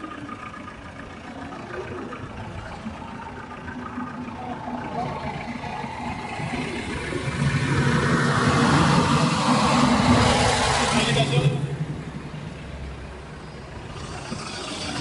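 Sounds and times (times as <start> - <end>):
tyre noise on road: 0.0 - 15.0
vehicle engine approaching: 0.0 - 15.0.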